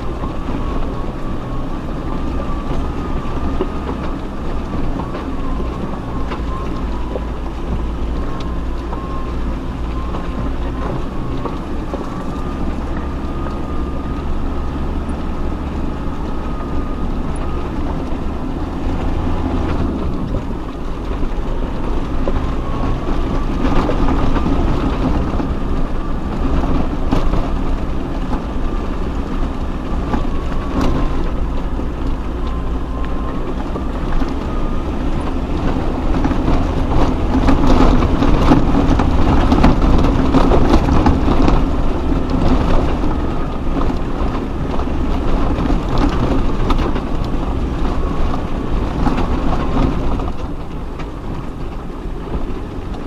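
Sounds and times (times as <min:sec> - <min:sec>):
off-road vehicle engine rumble: 0:00.0 - 0:53.0.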